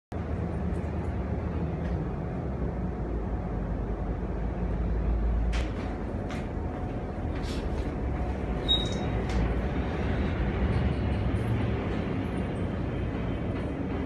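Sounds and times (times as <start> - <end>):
train interior rumble and hum: 0.1 - 14.0.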